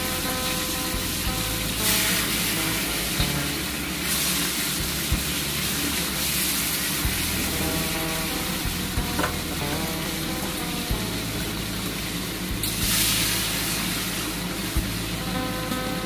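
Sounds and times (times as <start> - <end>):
meat sizzling in oil: 0.0 - 15.6.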